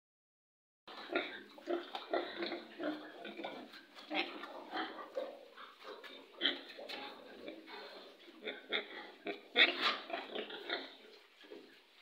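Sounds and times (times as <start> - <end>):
pigs grunting: 0.9 - 11.7.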